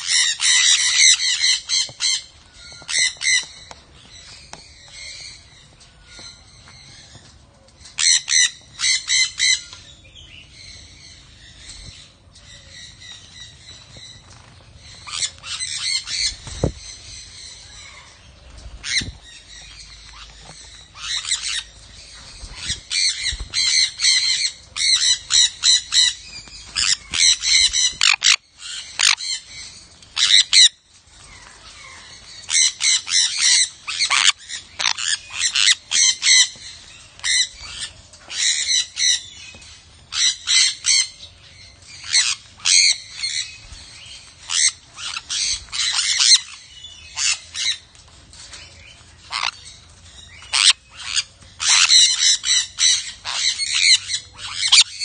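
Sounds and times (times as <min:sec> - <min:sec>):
parrots squawking: 0:00.0 - 0:03.8, 0:08.0 - 0:09.9, 0:14.9 - 0:48.6, 0:49.2 - 0:55.0.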